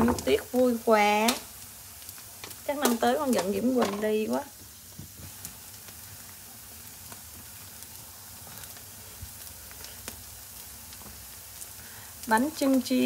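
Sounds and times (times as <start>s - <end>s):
rice cake sizzling in oil: 0.0s - 13.0s.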